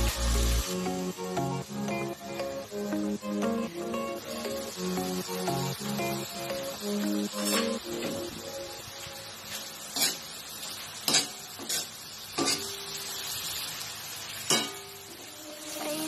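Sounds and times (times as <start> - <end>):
meat sizzling in a wok: 0.0 - 16.0.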